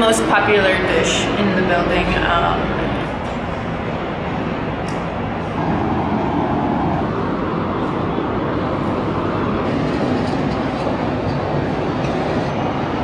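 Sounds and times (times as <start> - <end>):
vehicle noise rumble: 0.0 - 13.0.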